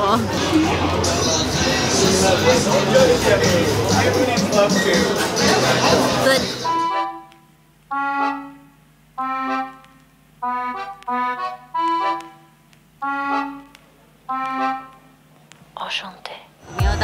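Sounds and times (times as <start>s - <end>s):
music of short held chords: 0.0s - 15.2s
steady low hum: 0.0s - 17.0s.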